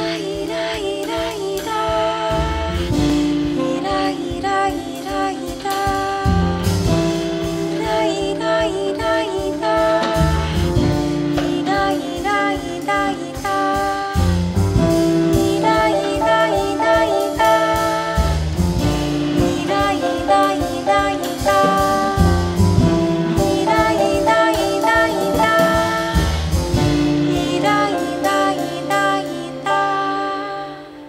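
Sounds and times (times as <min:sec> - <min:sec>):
piano: 0:00.0 - 0:31.0
woman singing jazz: 0:00.0 - 0:31.0.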